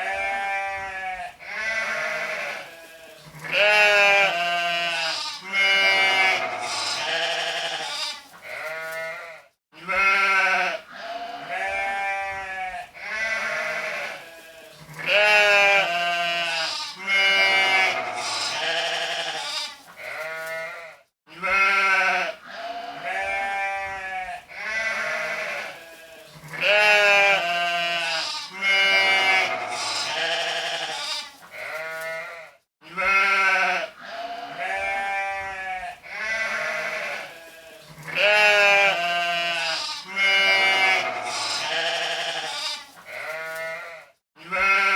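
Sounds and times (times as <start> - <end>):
sheep bleating: 0.0 - 44.9.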